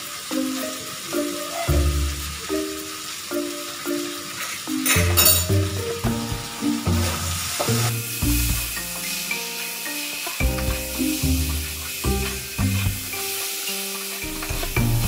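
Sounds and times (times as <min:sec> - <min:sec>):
background music: 0:00.0 - 0:15.0
rice sizzling: 0:00.0 - 0:15.0.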